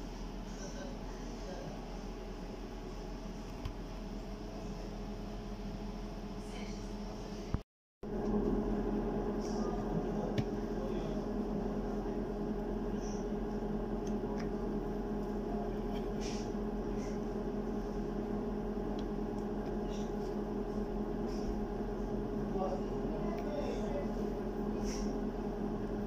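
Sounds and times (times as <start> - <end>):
kitchen equipment humming: 0.0 - 26.0.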